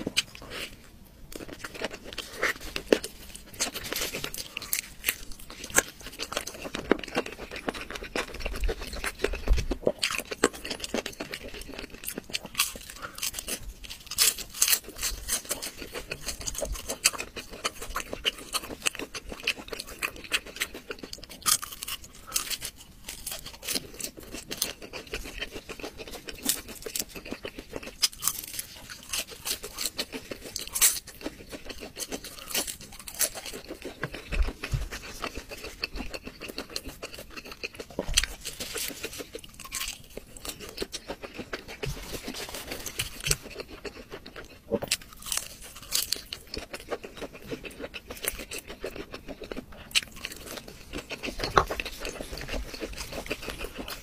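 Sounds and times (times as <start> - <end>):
crunchy bites and chewing: 0.0 - 54.0.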